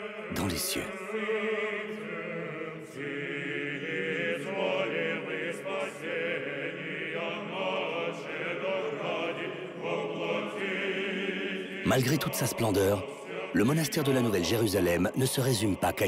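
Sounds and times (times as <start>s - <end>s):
choir singing a slow chant: 0.0s - 16.0s.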